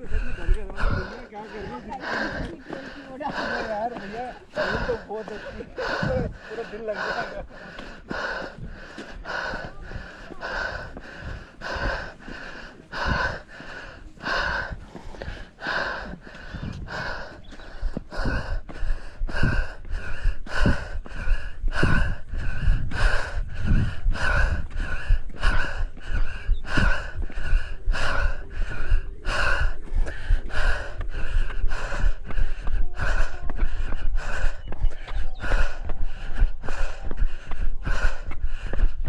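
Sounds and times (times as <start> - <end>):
wind rumble on microphone: 0.0 - 2.7, 4.5 - 7.1, 8.0 - 39.0
heavy rapid panting: 0.0 - 39.0.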